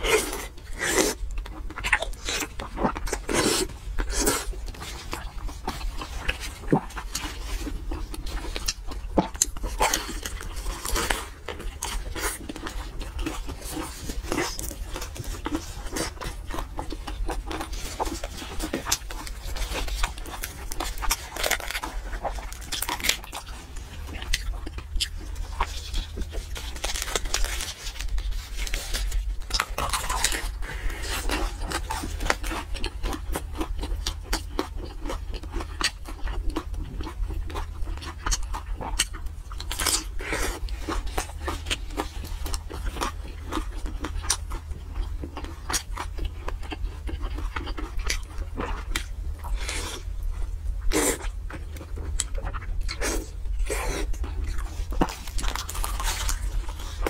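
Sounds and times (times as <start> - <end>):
crisp pastry crackles: 0.0 - 57.0
wet chewing and smacking: 0.0 - 57.0.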